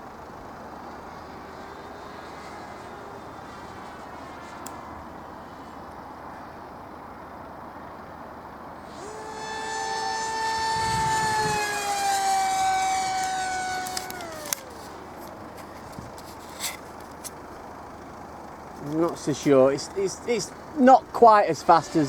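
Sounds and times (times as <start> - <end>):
rc jet motor whine: 0.0 - 6.8, 8.7 - 22.0.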